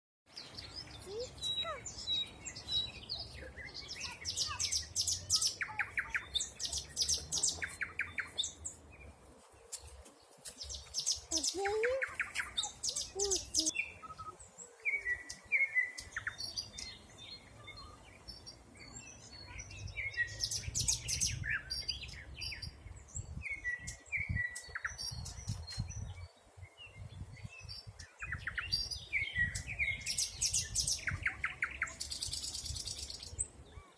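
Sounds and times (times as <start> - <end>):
songbirds singing: 0.3 - 33.9.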